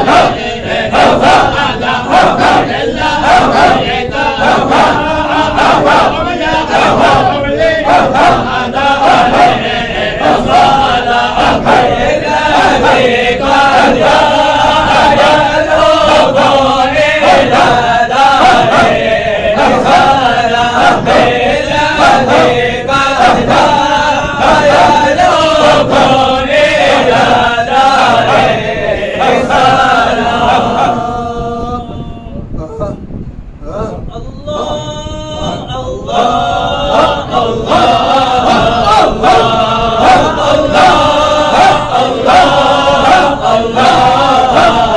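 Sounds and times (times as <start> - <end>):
men chanting rhythmically: 0.0 - 32.0, 33.7 - 44.9.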